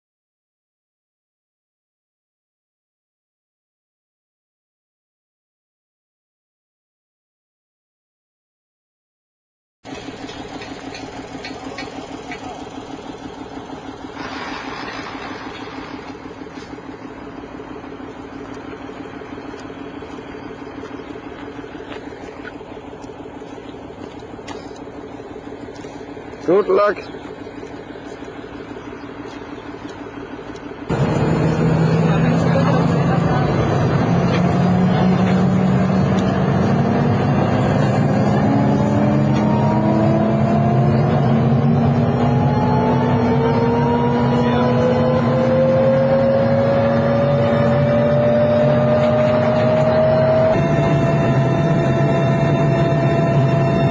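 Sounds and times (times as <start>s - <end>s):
helicopter turbines running: 9.9s - 53.9s.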